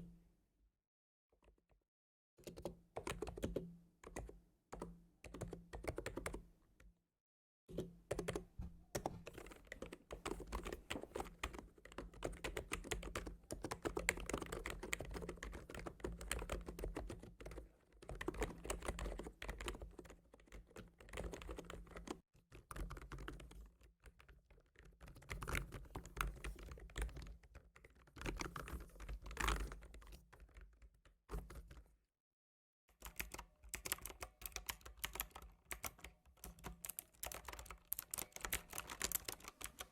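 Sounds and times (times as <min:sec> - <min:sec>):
typing on keyboard: 0:02.4 - 0:06.4, 0:07.7 - 0:30.8, 0:32.9 - 0:39.9.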